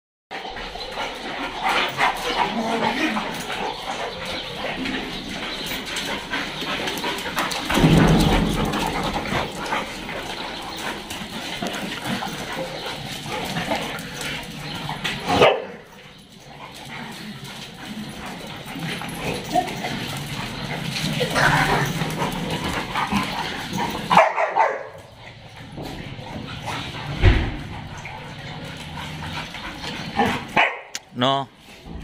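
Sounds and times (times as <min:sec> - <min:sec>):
dogs scuffling: 0:00.4 - 0:30.8.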